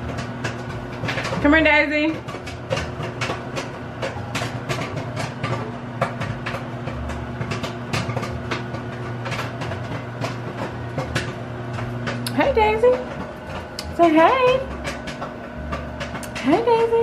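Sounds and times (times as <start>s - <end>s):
microwave oven hum: 0.0s - 17.0s
popcorn popping: 0.0s - 17.0s.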